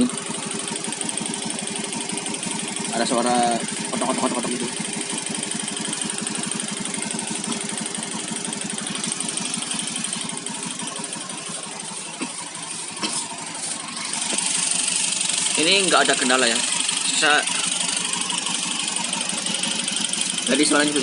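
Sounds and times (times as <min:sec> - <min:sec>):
scooter engine knocking: 0:00.0 - 0:21.0.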